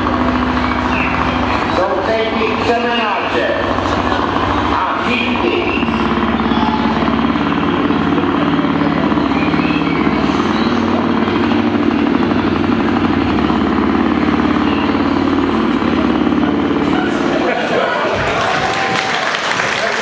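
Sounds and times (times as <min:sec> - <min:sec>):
pulsing motor noise: 0:00.0 - 0:19.2.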